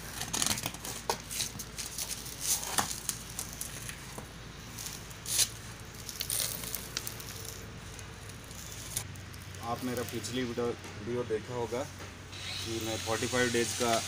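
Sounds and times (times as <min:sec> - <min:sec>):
soil scraping and crunching: 0:00.0 - 0:11.9.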